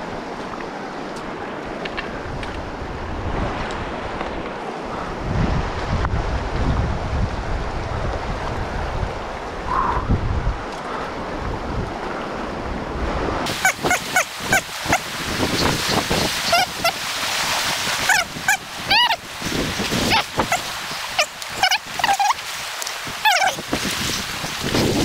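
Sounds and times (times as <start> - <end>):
river current rushing: 0.0 - 25.0
wind on microphone: 1.3 - 25.0.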